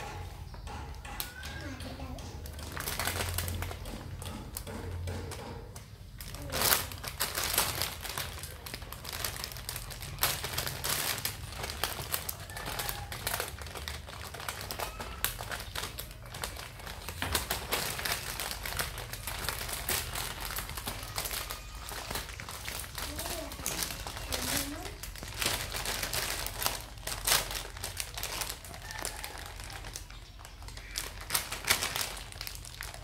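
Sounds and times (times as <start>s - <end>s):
plastic crinkling: 0.0s - 33.0s.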